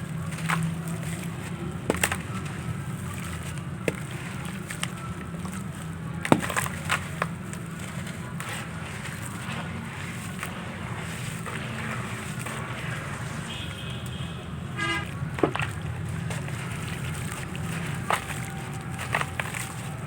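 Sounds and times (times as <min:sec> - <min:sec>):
chunks crumbling and snapping: 0:00.0 - 0:20.0.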